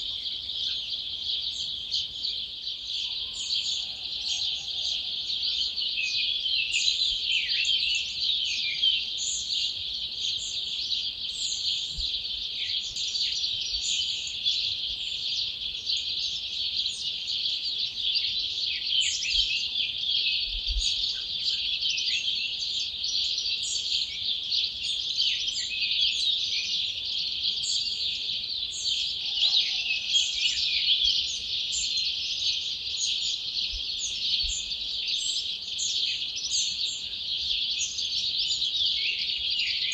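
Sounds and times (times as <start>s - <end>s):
songbirds singing chorus: 0.0s - 39.9s.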